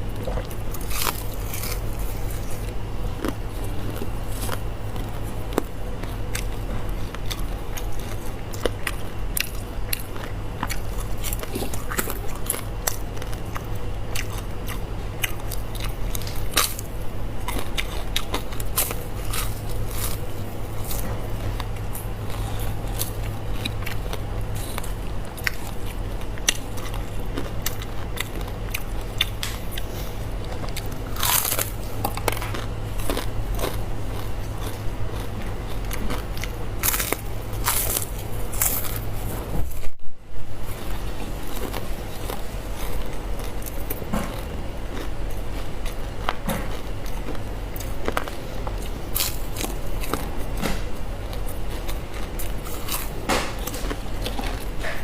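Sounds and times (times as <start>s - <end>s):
crunchy chewing: 0.0s - 40.0s, 40.6s - 55.0s
steady low hum: 0.0s - 55.0s.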